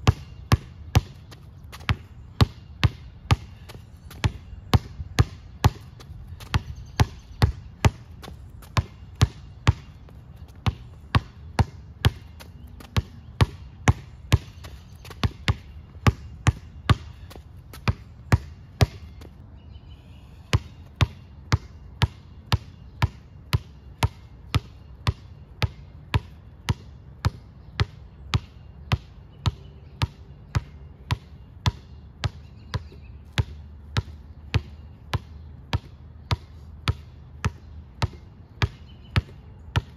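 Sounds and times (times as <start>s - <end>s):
basketball bouncing on concrete: 0.0s - 19.4s, 20.4s - 39.9s.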